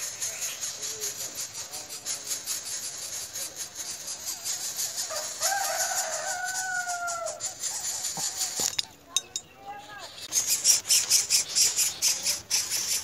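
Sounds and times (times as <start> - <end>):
long bird call: 0.0 - 13.0.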